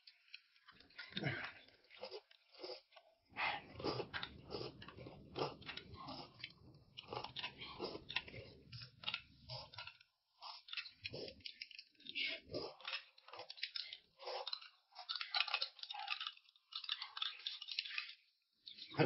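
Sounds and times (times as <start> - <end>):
person chewing crunchy food: 0.0 - 19.0.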